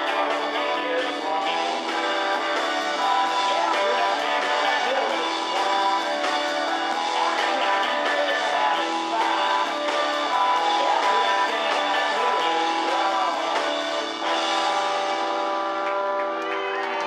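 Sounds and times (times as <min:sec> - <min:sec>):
man singing: 0:00.0 - 0:15.1
bass guitar: 0:00.0 - 0:17.0
drums with steady beat: 0:00.0 - 0:17.0
electric guitars: 0:00.0 - 0:17.0.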